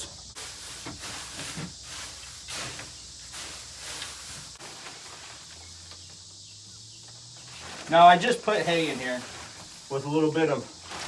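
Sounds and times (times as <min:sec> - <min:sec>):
hay rustling: 0:00.0 - 0:05.9, 0:07.5 - 0:11.0.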